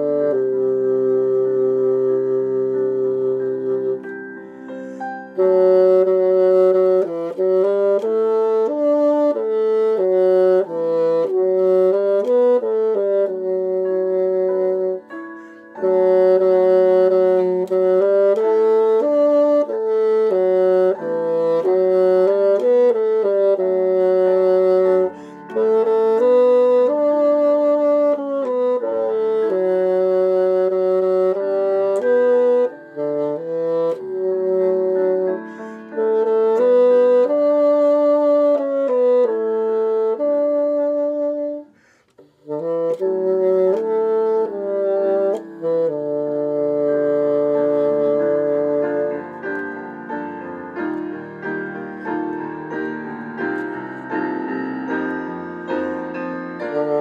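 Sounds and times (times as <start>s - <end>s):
bassoon melody: 0.0s - 57.0s.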